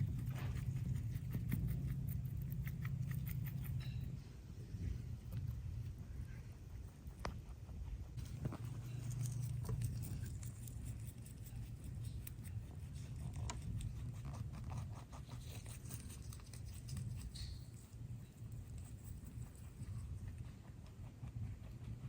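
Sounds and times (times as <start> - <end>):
rabbit munching greens: 0.0 - 22.0.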